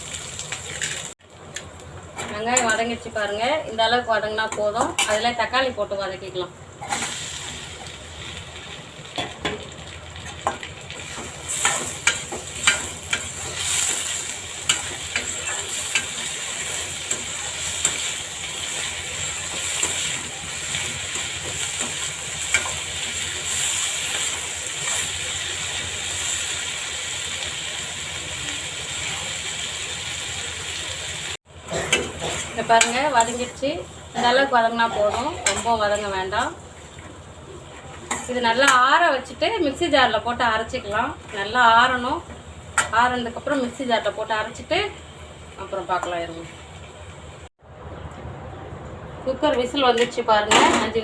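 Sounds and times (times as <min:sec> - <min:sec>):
vegetables sizzling in a pan: 0:00.0 - 0:47.5.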